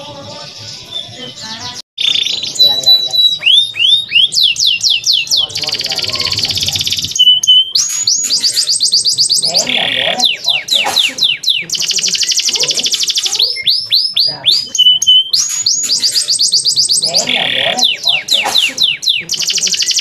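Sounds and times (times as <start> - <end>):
canary singing trills and whistles: 0.0 - 20.0.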